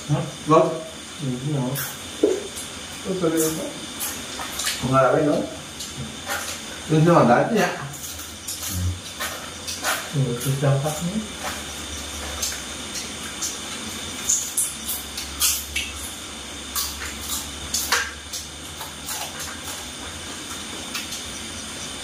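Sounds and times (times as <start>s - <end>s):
frying sizzle with pops: 0.0s - 22.0s.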